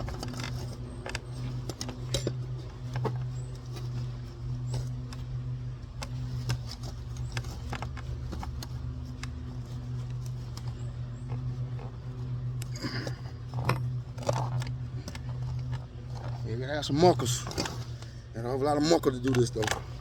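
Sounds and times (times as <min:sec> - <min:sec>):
tyre lever metal clicks and scrapes: 0:00.0 - 0:18.2, 0:19.0 - 0:20.0
low hum: 0:00.0 - 0:20.0.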